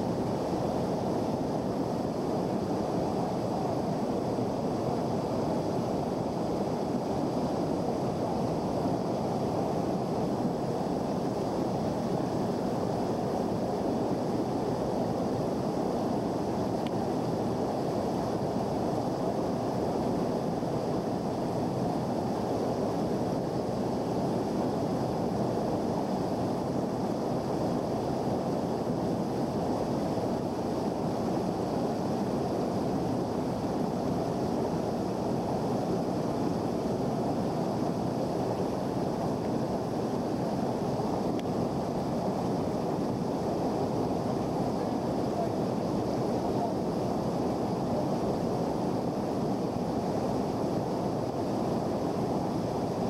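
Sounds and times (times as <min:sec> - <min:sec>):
creek rushing over boulders: 0:00.1 - 0:53.0.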